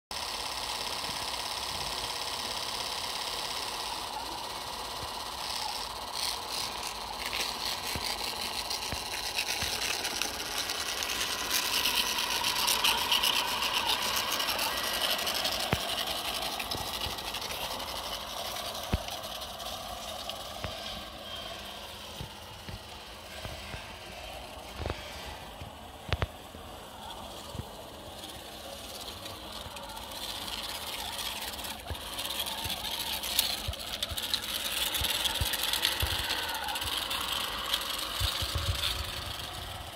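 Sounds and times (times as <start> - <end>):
electric motor whine: 0.1 - 39.9
sharp clicks: 0.1 - 39.9
cleaning brush scrubbing hiss: 0.2 - 39.9.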